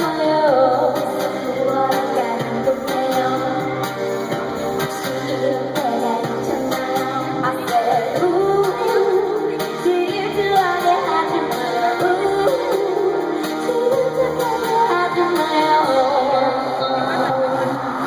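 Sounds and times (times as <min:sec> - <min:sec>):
pop band with guitar: 0:00.0 - 0:18.0
woman singing: 0:00.0 - 0:18.0.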